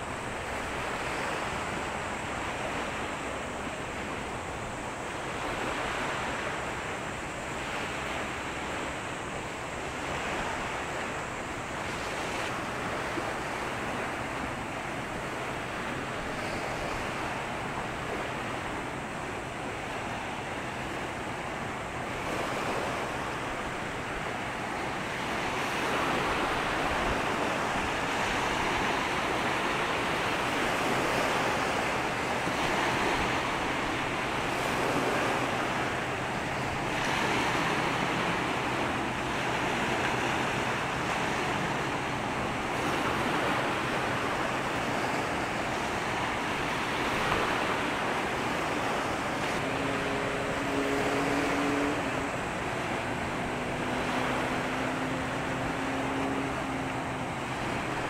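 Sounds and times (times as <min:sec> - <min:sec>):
water rushing in waves: 0:00.0 - 0:58.0.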